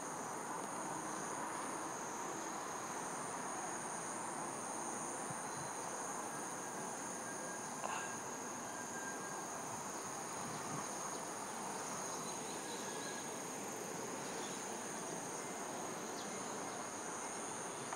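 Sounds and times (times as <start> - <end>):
insects chorus: 0.0 - 17.9.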